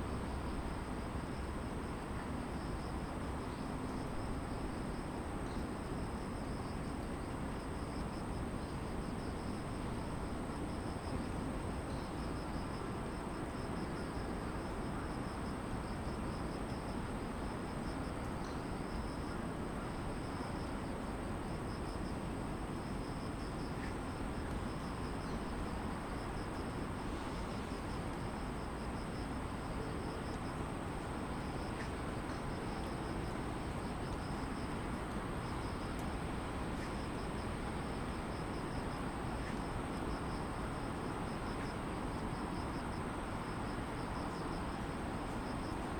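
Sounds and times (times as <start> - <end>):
high continuous insect trill: 0.0 - 45.9
insects chirping: 0.0 - 45.9.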